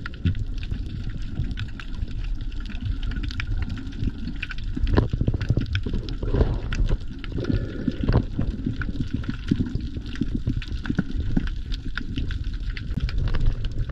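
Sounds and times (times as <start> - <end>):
muffled underwater rumble: 0.0 - 13.9
underwater clicks and crackles: 0.0 - 13.9.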